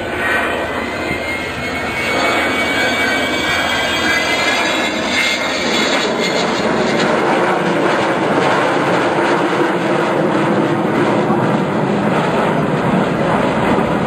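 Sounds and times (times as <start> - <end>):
faint high jet whine: 0.0 - 14.0
jet aircraft flying overhead: 0.0 - 14.0.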